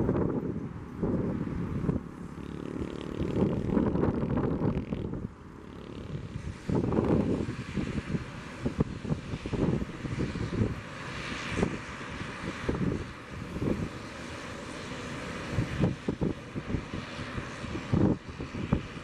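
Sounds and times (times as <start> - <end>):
turboprop engines running: 0.0 - 19.0
wind buffeting microphone: 0.0 - 19.0.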